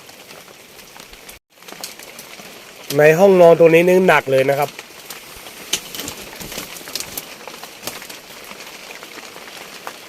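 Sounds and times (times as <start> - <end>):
rain pattering on roof: 0.0 - 10.0.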